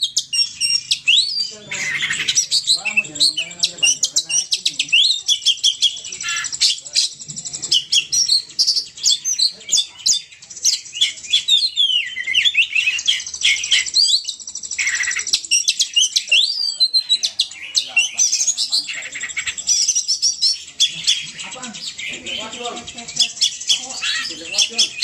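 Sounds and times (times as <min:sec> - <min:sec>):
bird chirping and twittering: 0:00.0 - 0:25.0.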